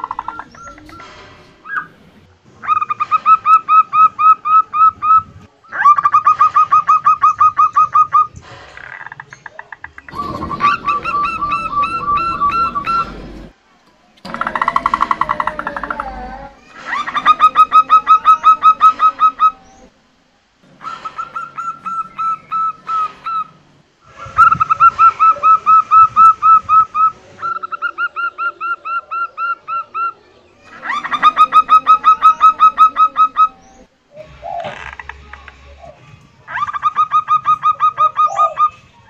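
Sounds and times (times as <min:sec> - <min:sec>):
dove cooing: 0:00.0 - 0:08.3, 0:09.5 - 0:13.5, 0:14.2 - 0:19.9, 0:20.7 - 0:38.9.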